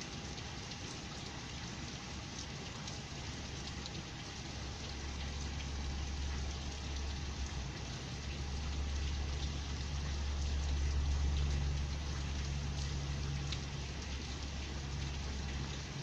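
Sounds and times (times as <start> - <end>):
heavy rain pouring: 0.0 - 16.0
raindrop ticks: 2.4 - 16.0.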